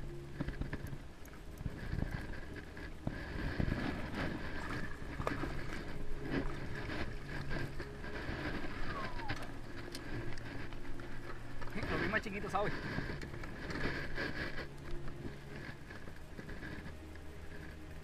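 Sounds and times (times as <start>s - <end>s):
gear rattling against plastic kayak: 0.0s - 18.0s
steady low rumble: 0.0s - 18.0s.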